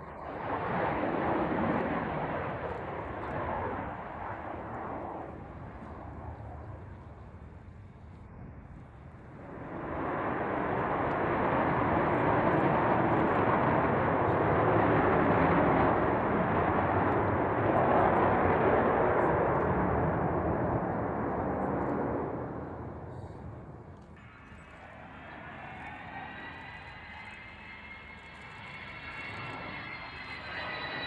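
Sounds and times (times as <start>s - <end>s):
jet aircraft passing overhead: 0.0s - 31.0s.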